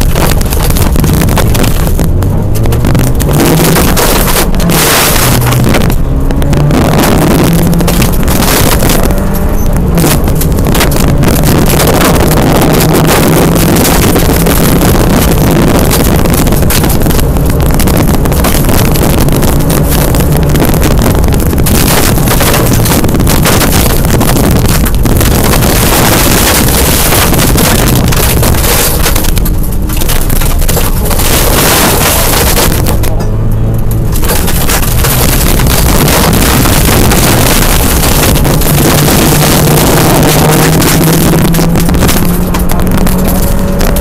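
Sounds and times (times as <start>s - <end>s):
rally car engine running hard: 0.0s - 44.0s
wind noise: 0.0s - 44.0s.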